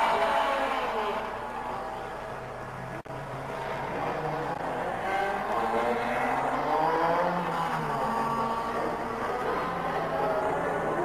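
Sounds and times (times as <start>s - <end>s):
racing car engine revving: 0.0s - 11.0s.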